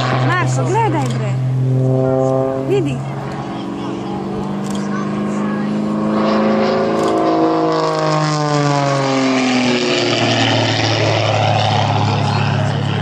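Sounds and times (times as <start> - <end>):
propeller plane passing low: 0.0 - 13.0.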